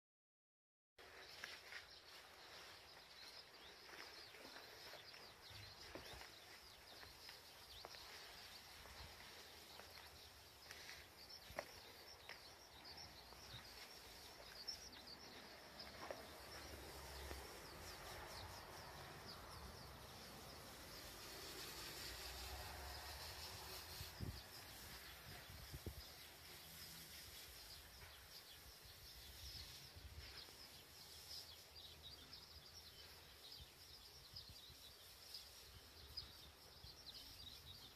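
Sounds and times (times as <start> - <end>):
small birds chirping: 1.0 - 37.9.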